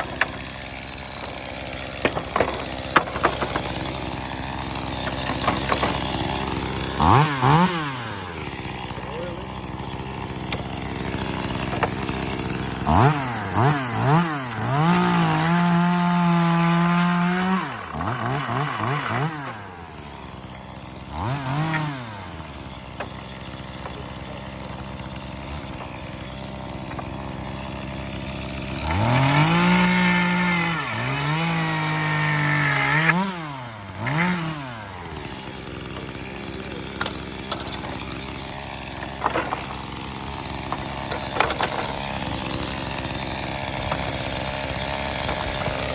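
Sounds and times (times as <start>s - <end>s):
chainsaw idling and revving: 0.0s - 45.9s.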